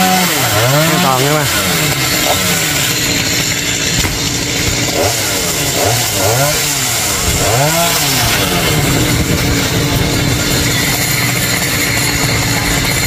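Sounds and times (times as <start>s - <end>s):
chainsaw engine revving: 0.0s - 13.0s.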